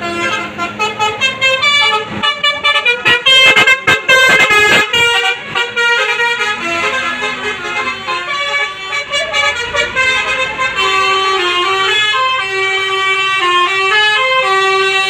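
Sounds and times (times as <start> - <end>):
musical bus air horn: 0.0 - 15.0.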